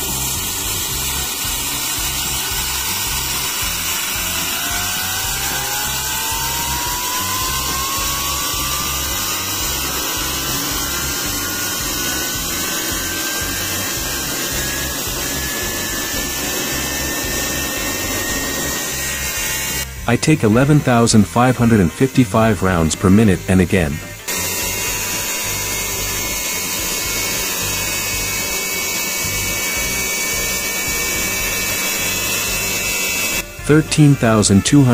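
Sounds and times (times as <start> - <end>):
steam hiss: 0.0 - 22.3, 24.2 - 33.6
turbine whine rising in pitch: 0.0 - 34.9.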